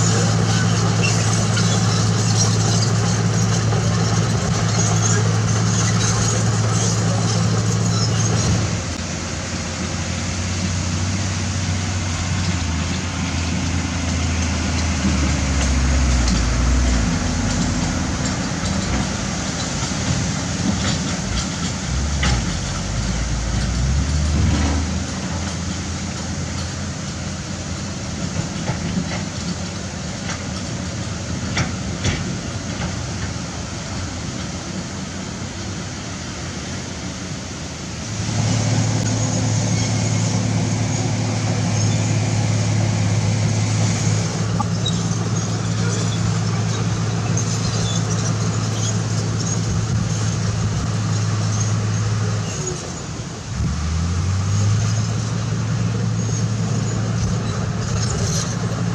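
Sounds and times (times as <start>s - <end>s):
diesel construction machinery engine: 0.0s - 58.9s.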